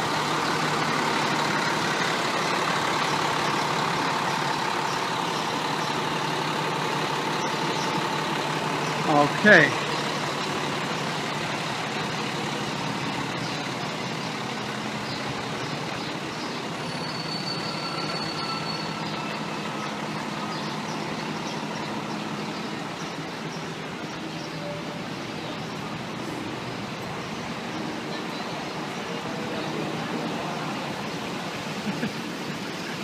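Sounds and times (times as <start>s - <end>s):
diesel engine idling: 0.0s - 33.0s
street noise: 0.0s - 33.0s.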